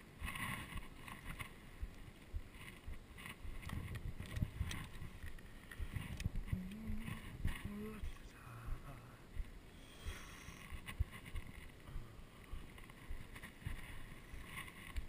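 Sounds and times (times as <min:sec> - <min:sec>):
wind on microphone: 0:00.2 - 0:15.0.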